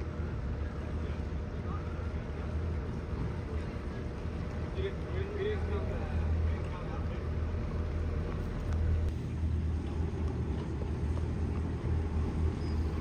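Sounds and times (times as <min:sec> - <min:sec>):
outboard motors idling: 0:00.0 - 0:13.0.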